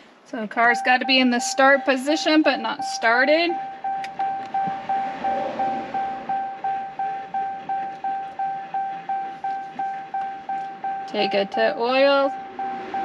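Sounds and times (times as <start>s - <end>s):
car warning chime dinging: 0.4s - 13.0s.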